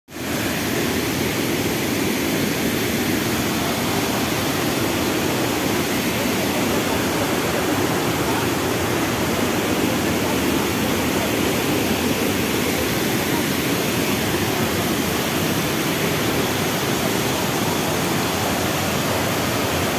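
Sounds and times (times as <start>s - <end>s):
waterfall rushing: 0.2s - 19.9s.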